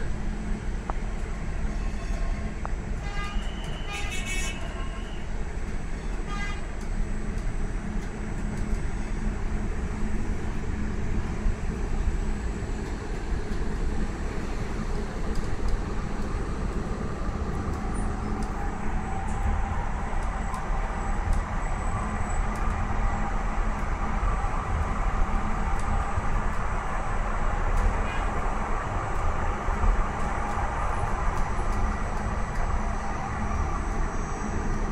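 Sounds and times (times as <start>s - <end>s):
tram rumbling along track: 0.0s - 34.9s.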